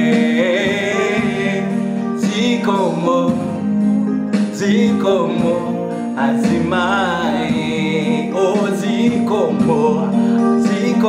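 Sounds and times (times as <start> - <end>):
electronic keyboard chords: 0.0 - 11.0
man singing gospel song: 0.0 - 11.0.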